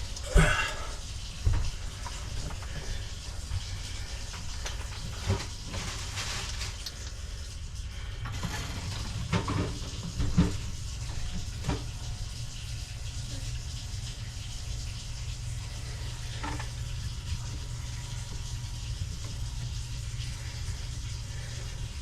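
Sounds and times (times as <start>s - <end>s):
water running through plumbing: 0.0s - 22.0s.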